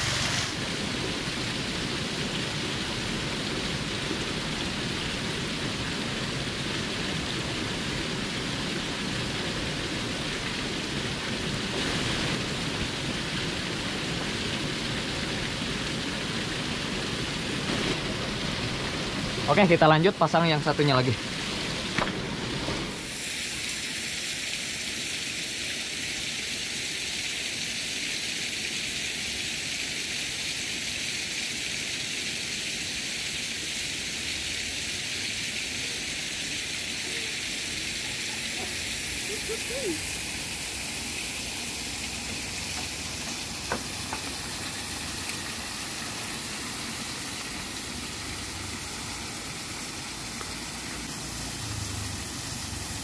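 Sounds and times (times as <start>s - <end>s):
stream running water: 0.0s - 53.0s.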